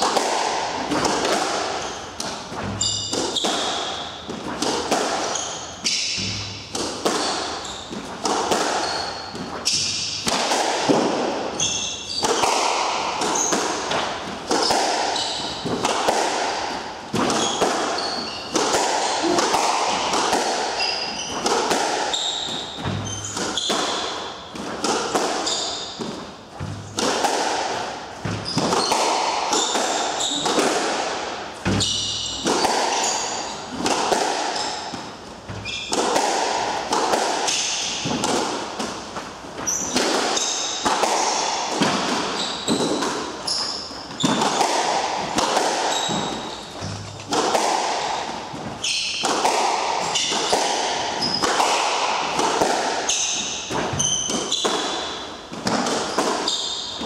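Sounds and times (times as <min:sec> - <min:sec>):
sneakers squeaking on floor: 0:00.0 - 0:57.0.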